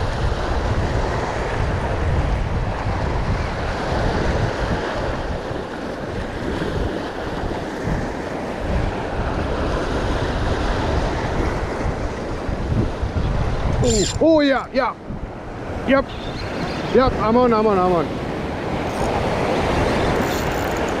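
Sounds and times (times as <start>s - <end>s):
sea surf breaking on rocks: 0.0s - 21.0s
wind buffeting microphone: 0.0s - 21.0s.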